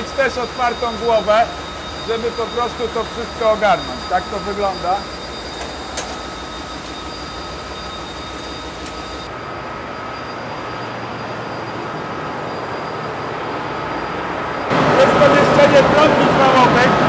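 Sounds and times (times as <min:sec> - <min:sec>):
engine room machinery drone: 0:00.0 - 0:17.0
thin high whine: 0:00.0 - 0:17.0.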